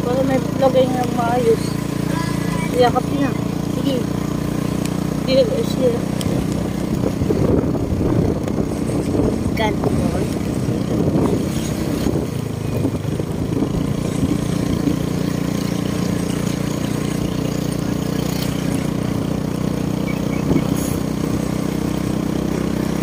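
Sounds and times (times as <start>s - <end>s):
vehicle engine cruising: 0.0s - 23.0s.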